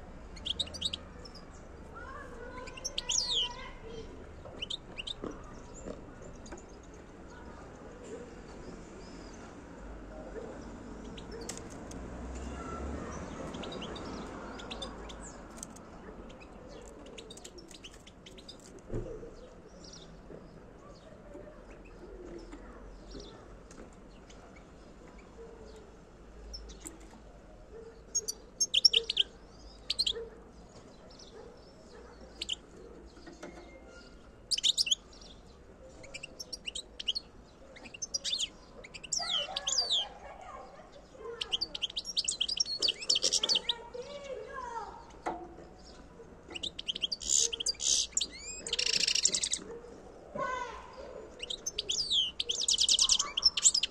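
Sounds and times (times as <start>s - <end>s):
bird chirping calls: 0.0s - 53.9s.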